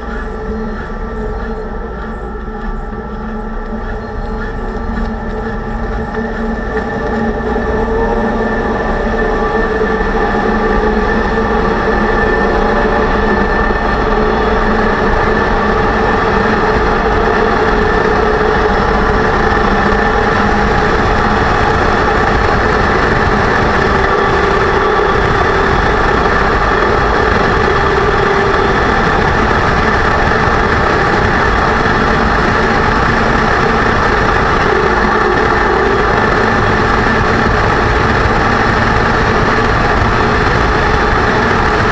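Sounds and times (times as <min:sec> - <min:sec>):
car drivetrain drone: 0:00.0 - 0:41.9
differential whine: 0:00.0 - 0:41.9.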